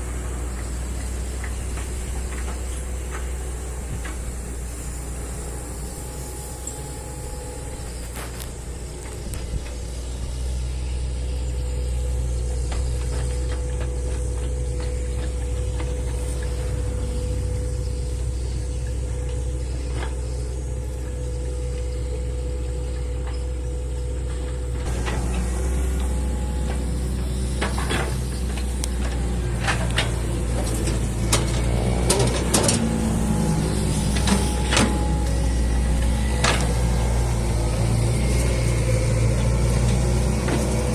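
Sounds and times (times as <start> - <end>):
excavator diesel engine: 0.0 - 40.9
steady whine: 0.0 - 40.9.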